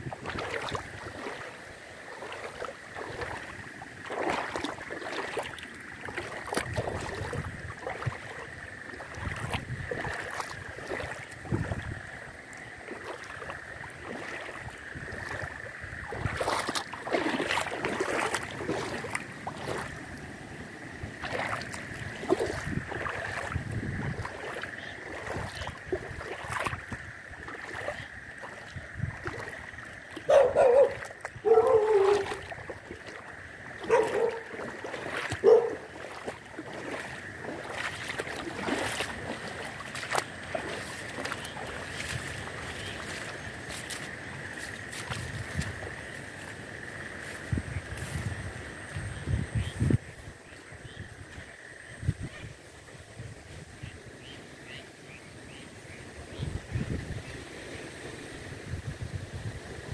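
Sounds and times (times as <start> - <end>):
loud frog calls: 0.0 - 52.6
frogs calling in chorus: 0.0 - 58.6
wind: 0.0 - 59.9.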